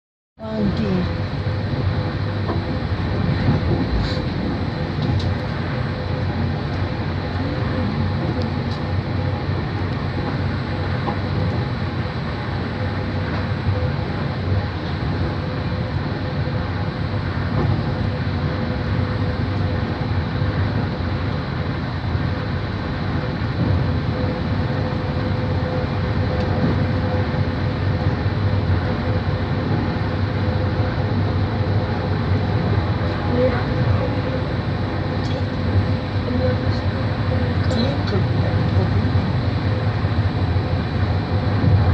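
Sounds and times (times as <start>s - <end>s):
train rumbling: 0.4s - 41.9s.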